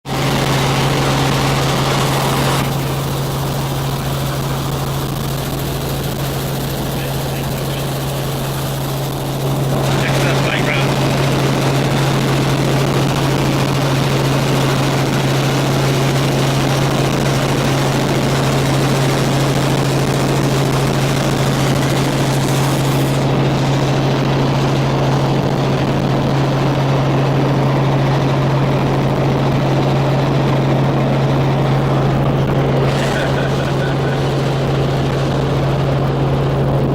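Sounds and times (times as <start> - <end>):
helicopter running: 0.0 - 36.9.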